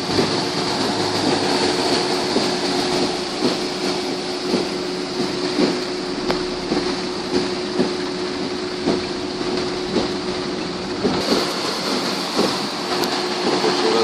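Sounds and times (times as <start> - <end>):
constant hum: 0.0 - 14.0
floodwater rushing: 0.0 - 14.0.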